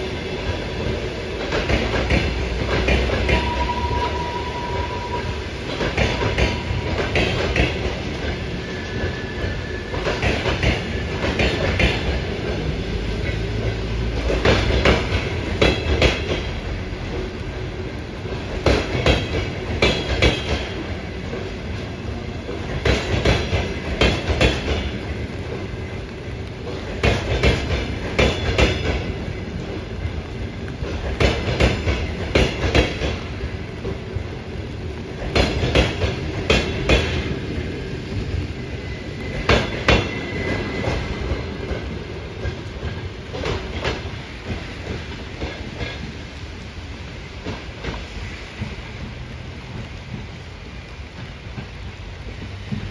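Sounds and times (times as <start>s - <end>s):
steady train rumble: 0.0s - 52.9s.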